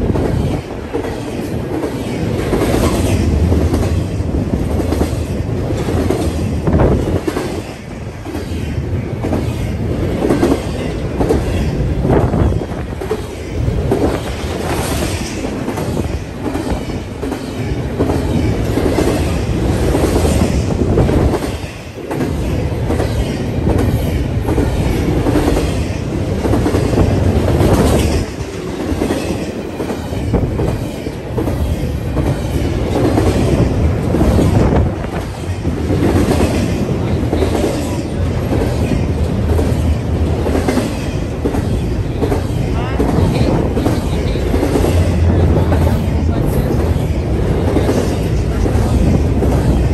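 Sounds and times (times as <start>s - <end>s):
freight train rumbling: 0.0s - 49.9s.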